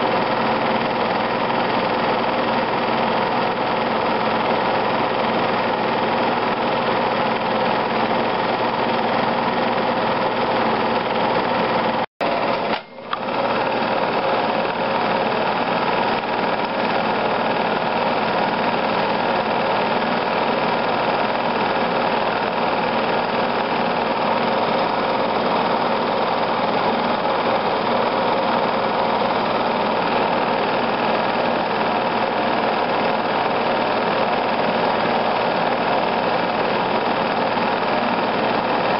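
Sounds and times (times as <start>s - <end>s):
film projector whirr and clatter: 0.0s - 38.9s.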